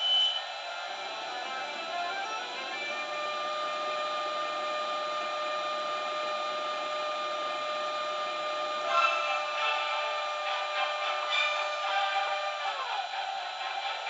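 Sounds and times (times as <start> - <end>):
model locomotive whirring hum: 0.0 - 14.0.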